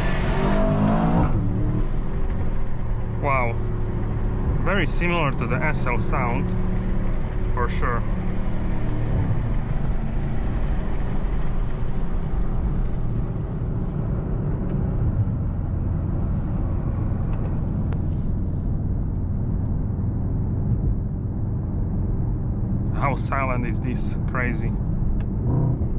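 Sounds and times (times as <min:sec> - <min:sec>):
car engine running: 0:00.0 - 0:25.9
road noise: 0:00.0 - 0:25.9.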